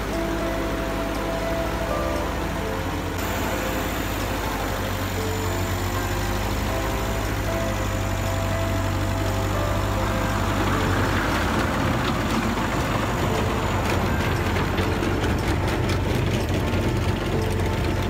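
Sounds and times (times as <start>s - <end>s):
rapid mechanical rattle: 0.0s - 18.0s
rushing noise: 0.0s - 18.0s
tractor engine idling: 0.0s - 18.0s.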